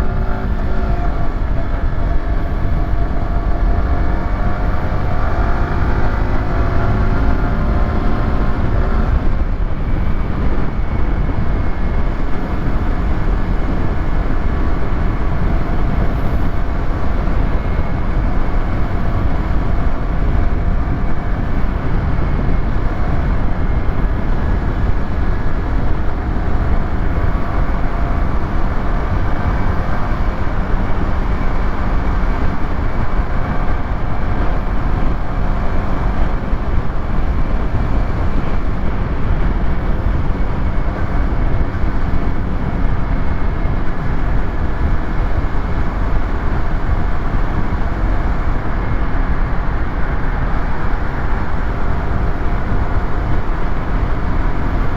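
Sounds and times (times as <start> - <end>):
motorcycle engine and exhaust: 0.0 - 54.9
wind rush on microphone: 0.0 - 54.9.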